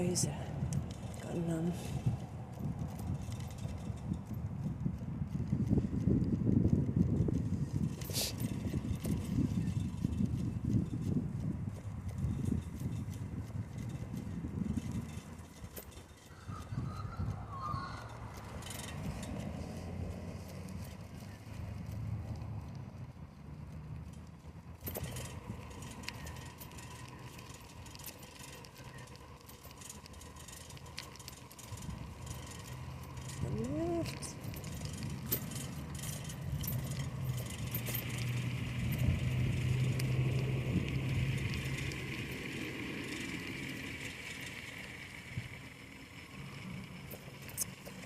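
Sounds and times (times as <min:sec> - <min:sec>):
bicycle rumbling: 0:00.0 - 0:48.0
bike clicks and rattles: 0:00.0 - 0:48.0.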